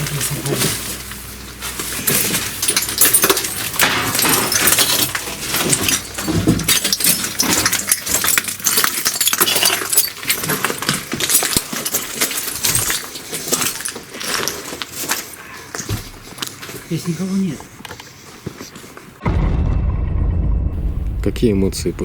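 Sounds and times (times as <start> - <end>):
crunching and clinking: 0.0 - 19.0.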